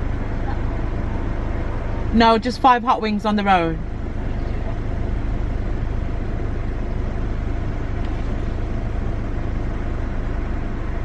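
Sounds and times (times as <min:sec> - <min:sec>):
car idling from inside cabin: 0:00.0 - 0:11.0.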